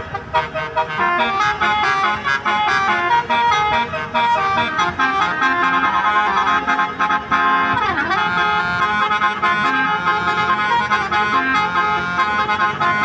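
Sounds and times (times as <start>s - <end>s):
bus horn playing a melody: 0.0s - 13.0s.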